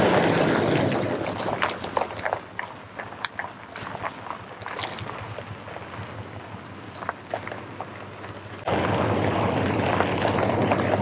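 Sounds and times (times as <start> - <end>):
gravel crackling under tyres: 0.0 - 11.0
truck engine and tyre noise: 0.0 - 11.0.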